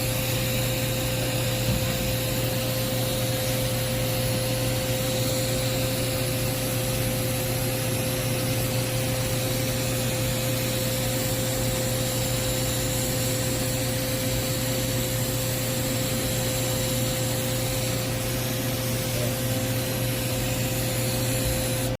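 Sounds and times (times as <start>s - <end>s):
thin steady tone: 0.0s - 22.0s
welding arc hissing: 0.0s - 22.0s.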